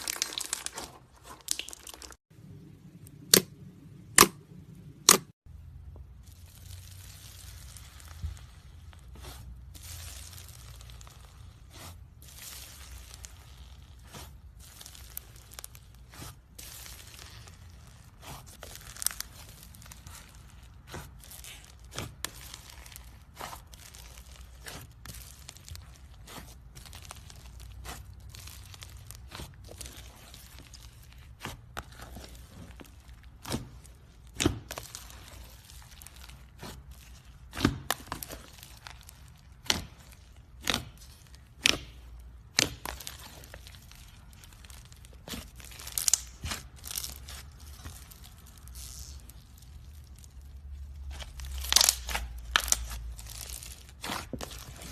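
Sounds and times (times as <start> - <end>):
slime crackling and popping: 0.0 - 2.2, 6.1 - 54.9.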